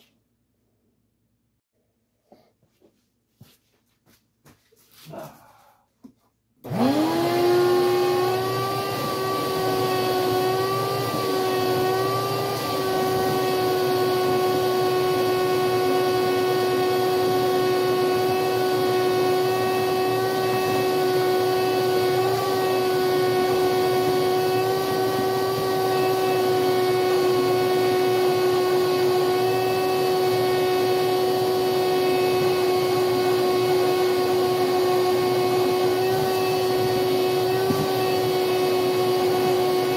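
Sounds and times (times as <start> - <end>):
vacuum cleaner whining: 6.6 - 39.9.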